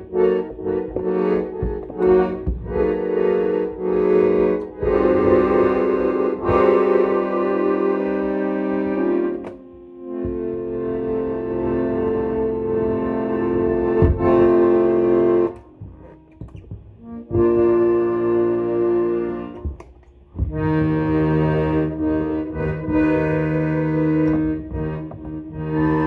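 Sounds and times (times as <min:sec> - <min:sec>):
accordion chords: 0:00.0 - 0:26.0
low accordion bass note: 0:00.0 - 0:26.0.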